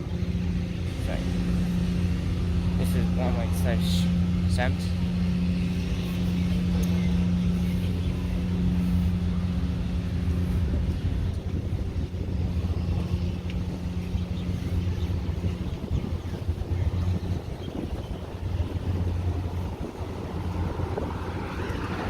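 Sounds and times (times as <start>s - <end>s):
passing traffic rumble: 0.0s - 22.0s
vehicle engine humming: 0.0s - 22.0s.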